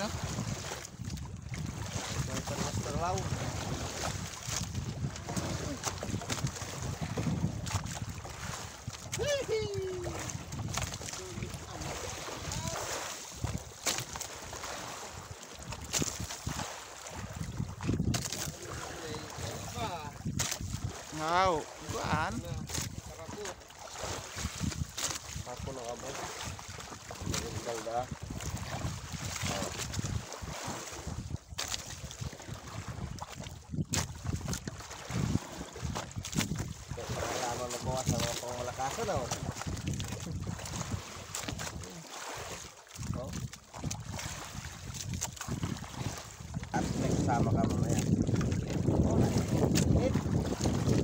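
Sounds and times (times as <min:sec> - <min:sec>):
wind buffeting microphone: 0:00.0 - 0:23.4, 0:24.0 - 0:42.0, 0:43.0 - 0:51.0
water sounds: 0:00.0 - 0:51.0.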